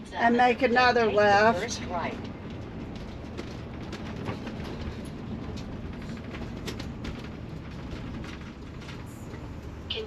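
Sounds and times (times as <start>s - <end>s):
vehicle road and engine rumble: 0.0s - 10.0s
light ticks and rattles: 1.4s - 10.0s.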